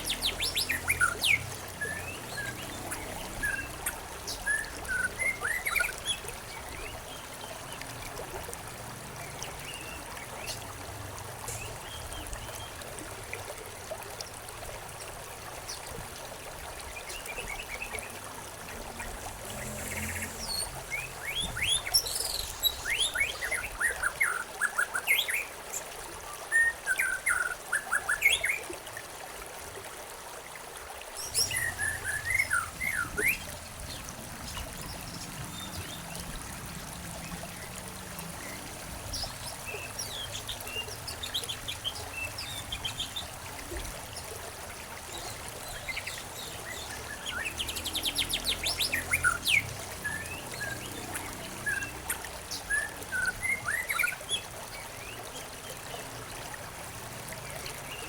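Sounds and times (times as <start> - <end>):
songbirds chirping: 0.0 - 12.9, 16.8 - 25.4, 31.2 - 58.0
stream trickling: 0.0 - 58.0.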